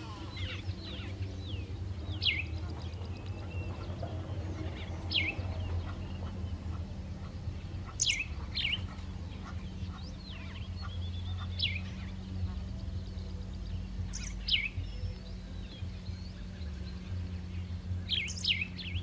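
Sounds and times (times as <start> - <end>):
bird chirping: 0.0 - 19.0
steady low hum: 0.0 - 19.0.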